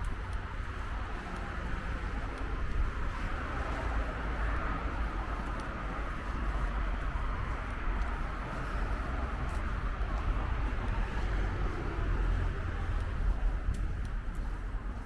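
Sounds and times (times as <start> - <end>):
city traffic hiss: 0.0 - 15.0
wind rumbling on microphone: 0.0 - 15.0.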